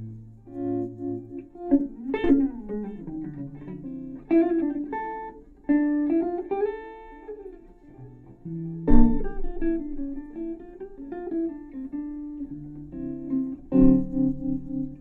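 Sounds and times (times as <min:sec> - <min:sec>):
amplified jazz guitar: 0:00.0 - 0:15.0.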